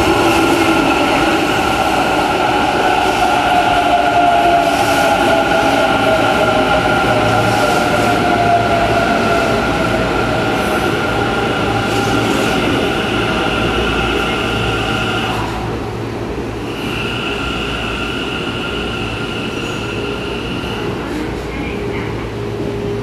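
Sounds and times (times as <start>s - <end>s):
multi-tone train whine: 0.0s - 23.0s
train wheels rumbling: 0.0s - 23.0s.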